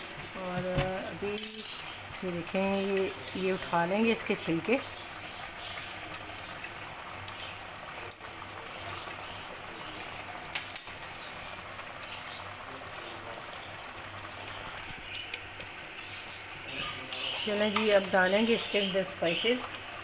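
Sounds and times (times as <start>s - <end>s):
pot boiling hard bubbling: 0.0s - 20.0s.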